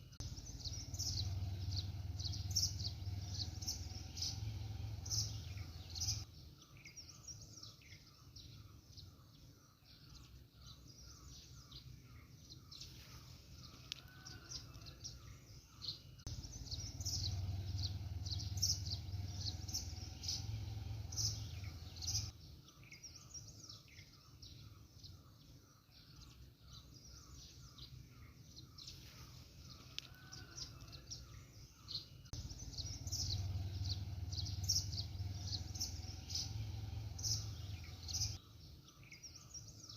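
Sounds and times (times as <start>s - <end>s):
low steady background noise: 0.0s - 39.9s
small birds chirping: 0.0s - 39.9s.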